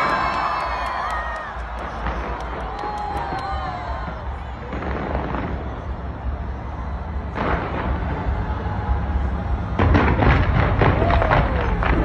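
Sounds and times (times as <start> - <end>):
fireworks crackling: 0.0 - 12.0
fireworks booming: 1.6 - 12.0.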